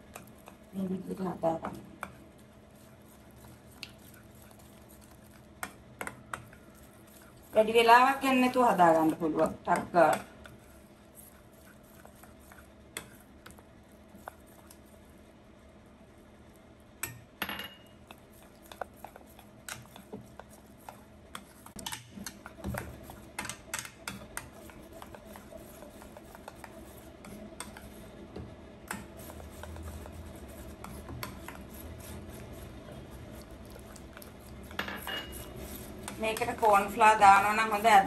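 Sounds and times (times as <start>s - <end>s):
metal spoon stirring batter: 0.0s - 15.2s, 17.8s - 38.0s.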